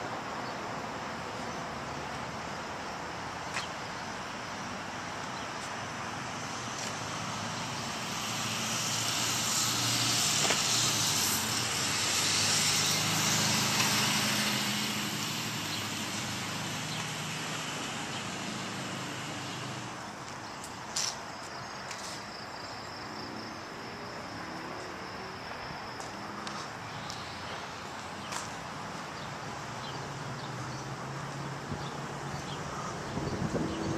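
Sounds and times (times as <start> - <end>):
passing vehicle engine: 0.0 - 20.3, 23.1 - 33.9.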